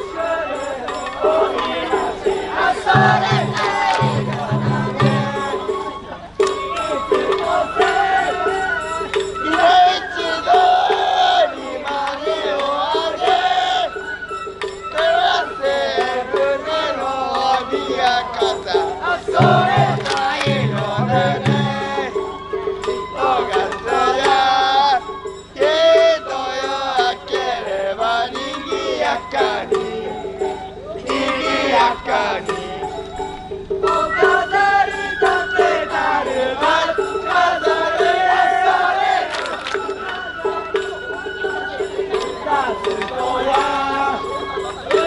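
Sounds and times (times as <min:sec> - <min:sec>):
steady held tone: 0:00.0 - 0:10.8, 0:16.9 - 0:45.0
crowd shouting and chanting: 0:00.0 - 0:45.0
festival music: 0:00.0 - 0:45.0.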